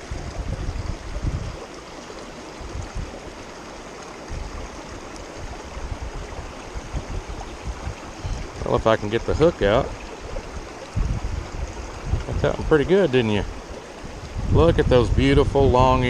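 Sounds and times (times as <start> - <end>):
creek water running: 0.0 - 16.0.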